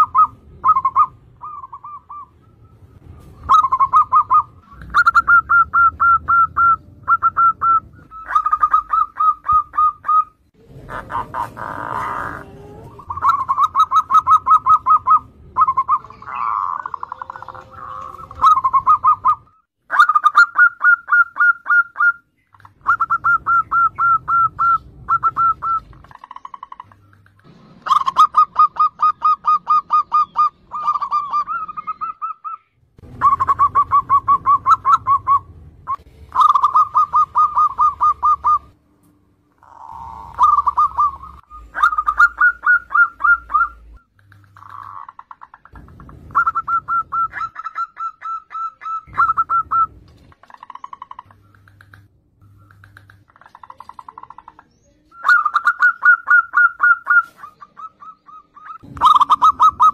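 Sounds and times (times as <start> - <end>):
doves cooing in rapid notes: 0.0 - 38.8, 39.6 - 54.6, 55.2 - 59.9.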